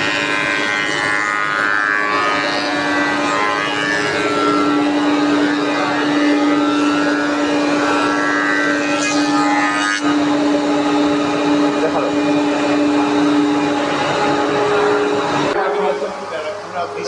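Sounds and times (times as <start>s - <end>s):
woodworking machine humming: 0.0s - 17.0s.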